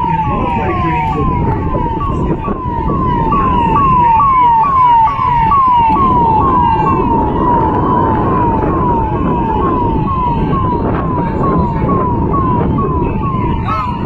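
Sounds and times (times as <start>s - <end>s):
emergency vehicle siren: 0.0s - 14.0s.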